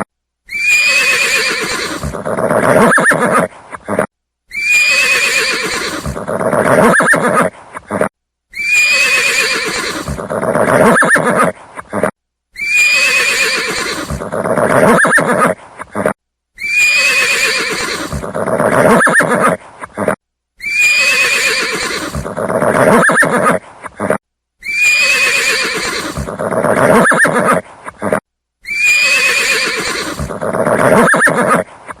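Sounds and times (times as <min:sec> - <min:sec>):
horse whinnying: 0:00.5 - 0:31.7.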